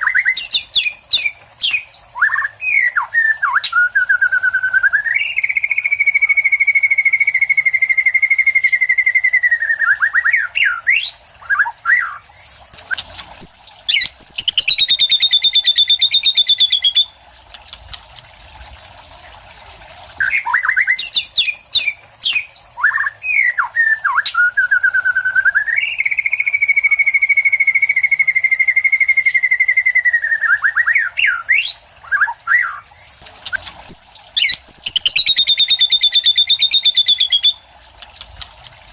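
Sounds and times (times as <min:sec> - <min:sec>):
songbird whistling and trilling: 0:00.0 - 0:17.2, 0:20.2 - 0:37.6.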